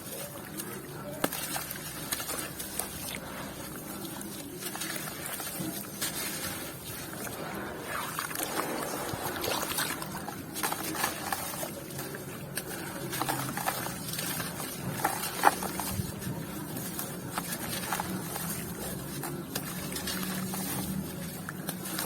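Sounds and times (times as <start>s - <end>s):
cement crunching and crumbling: 0.0s - 22.0s.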